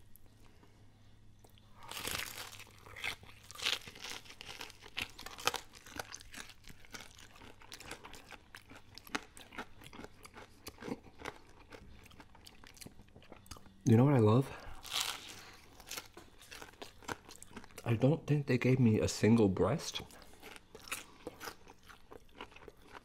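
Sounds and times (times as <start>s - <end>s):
close-up chewing: 0.0s - 13.9s, 14.6s - 17.9s, 20.0s - 23.0s
crunch of fried breading: 1.5s - 13.8s, 14.8s - 17.9s, 19.8s - 23.0s.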